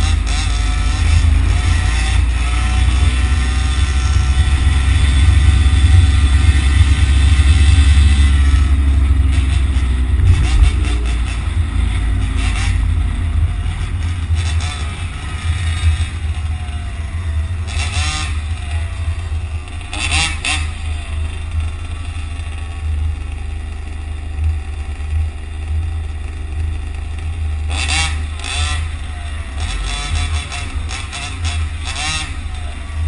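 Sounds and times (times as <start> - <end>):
traffic rumble: 0.0 - 33.0
vehicle engines passing: 0.0 - 33.0.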